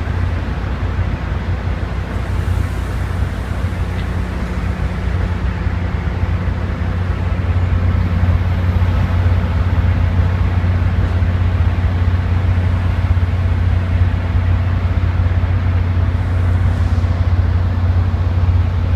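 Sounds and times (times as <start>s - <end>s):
diesel locomotive engine drone: 0.0s - 18.9s
high-pitched locomotive noise: 0.0s - 18.9s.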